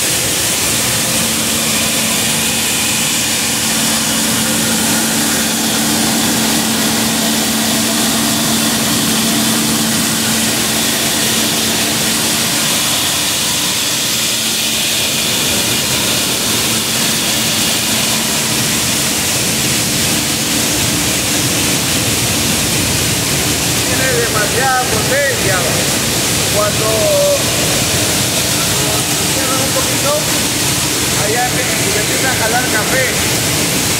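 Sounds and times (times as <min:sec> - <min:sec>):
motor hum: 0:00.0 - 0:33.9.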